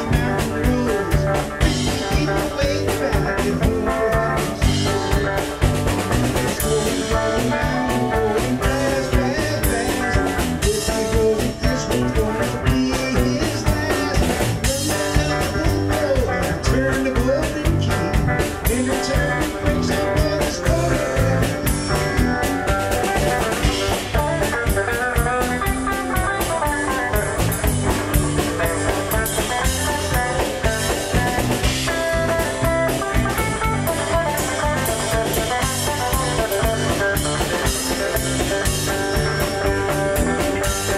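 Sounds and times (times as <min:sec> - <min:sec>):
drum kit drumming: 0:00.0 - 0:40.9
electric guitars: 0:00.0 - 0:40.9.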